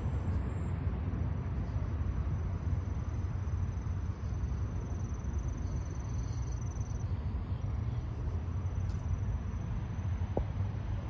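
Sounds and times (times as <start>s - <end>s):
crickets trilling: 0.0s - 11.0s
low rumbling noise: 0.0s - 11.0s.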